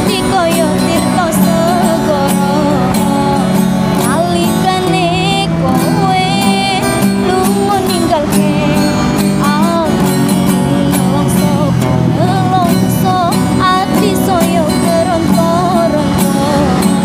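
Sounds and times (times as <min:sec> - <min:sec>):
acoustic guitar: 0:00.0 - 0:17.0
woman singing: 0:00.0 - 0:17.0.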